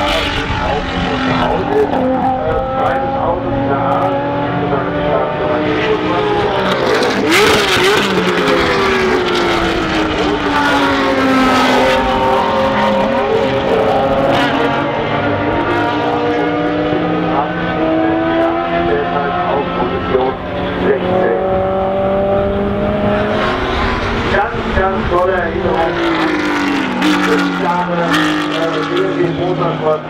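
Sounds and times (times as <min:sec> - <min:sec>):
racing car engines: 0:00.0 - 0:30.0.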